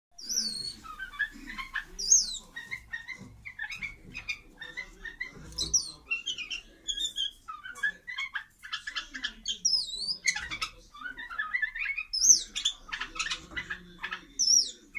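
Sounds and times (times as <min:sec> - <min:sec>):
birds chirping and whistling: 0:00.2 - 0:14.9.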